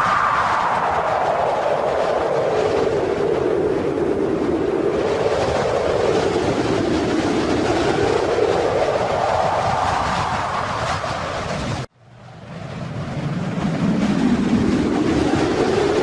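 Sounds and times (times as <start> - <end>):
wind whistling: 0.0 - 16.0.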